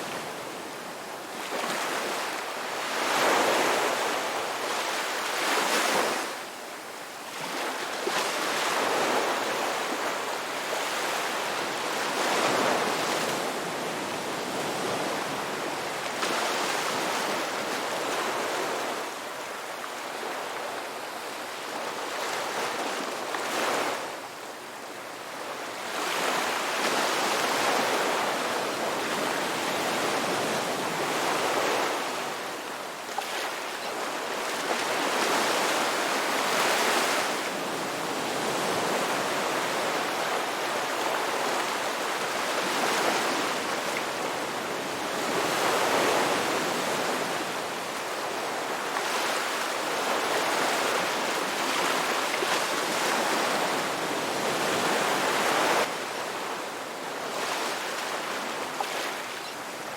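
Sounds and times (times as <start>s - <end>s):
ocean waves breaking on shore: 0.0s - 6.5s, 7.1s - 59.9s.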